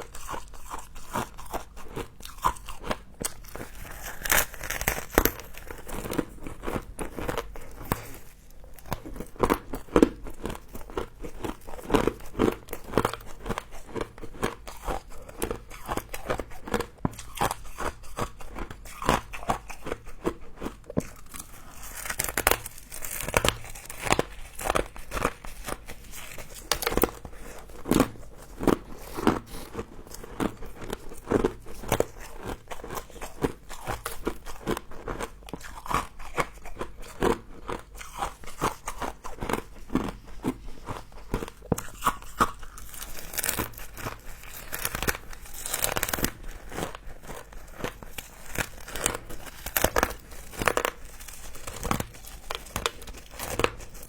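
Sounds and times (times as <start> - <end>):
chewing crunchy frost: 0.0 - 54.0.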